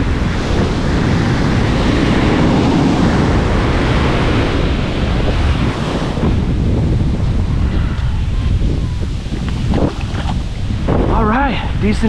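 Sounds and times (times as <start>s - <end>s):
breaking surf: 0.0s - 12.0s
wind buffeting microphone: 0.0s - 12.0s.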